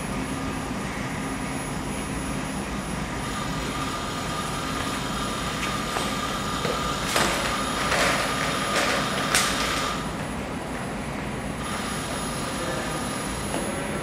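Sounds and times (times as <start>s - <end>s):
robot arm motors humming: 0.0s - 14.0s.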